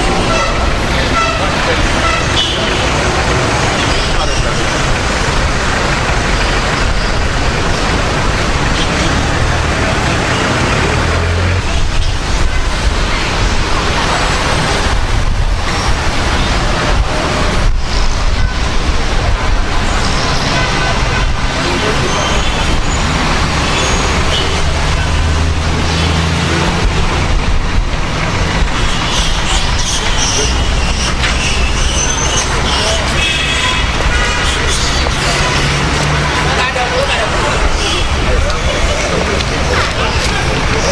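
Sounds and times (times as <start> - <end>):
rushing road vehicle noise: 0.0 - 40.9.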